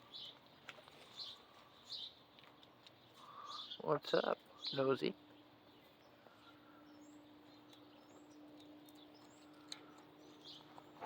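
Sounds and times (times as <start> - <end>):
faint steady hum: 0.0 - 11.0
faint bird chirps: 1.0 - 11.0.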